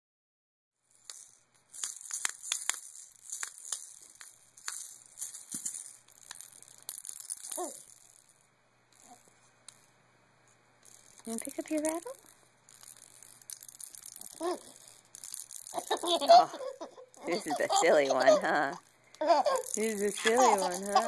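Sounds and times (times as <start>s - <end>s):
baby rattles shaken: 0.9s - 8.3s, 9.0s - 9.3s, 10.8s - 21.0s.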